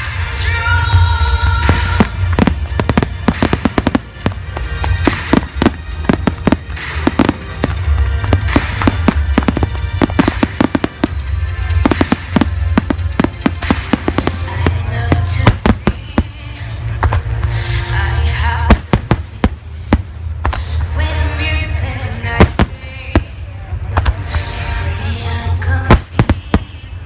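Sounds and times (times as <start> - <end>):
fireworks bangs and crackles: 0.0 - 17.6, 18.4 - 21.6, 22.3 - 24.5, 25.7 - 27.0
music playing: 0.0 - 27.0.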